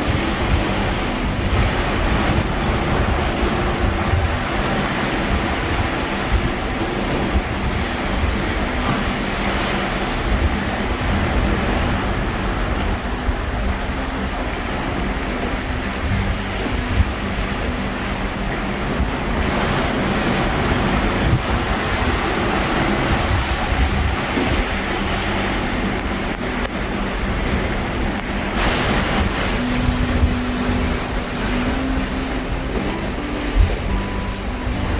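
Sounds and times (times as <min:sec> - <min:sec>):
low steady hum: 0:00.0 - 0:34.9
ocean waves rushing: 0:00.0 - 0:34.9
wind buffeting microphone: 0:00.0 - 0:34.9.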